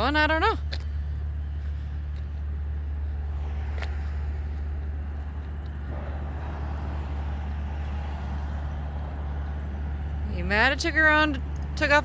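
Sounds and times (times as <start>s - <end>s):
low engine hum: 0.0s - 12.0s
outdoor background noise: 0.0s - 12.0s.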